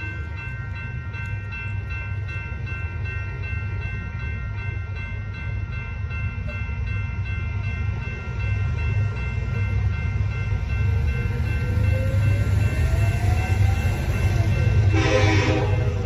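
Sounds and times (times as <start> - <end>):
crossing warning bells ringing: 0.0 - 16.0.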